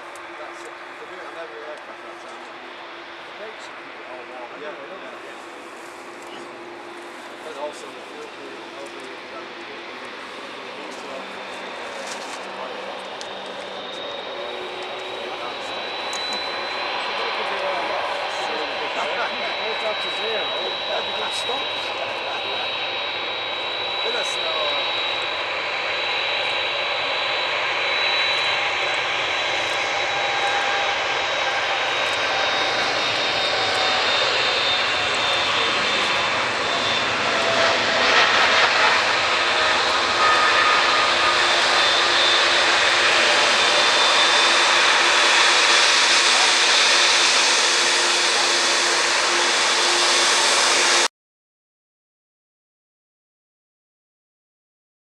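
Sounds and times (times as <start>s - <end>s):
jet engines roaring: 0.0s - 51.1s.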